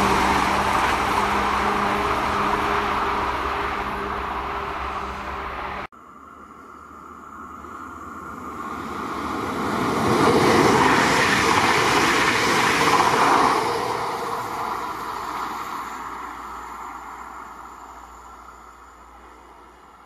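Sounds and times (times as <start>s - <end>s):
train passing on rails: 0.0s - 20.0s.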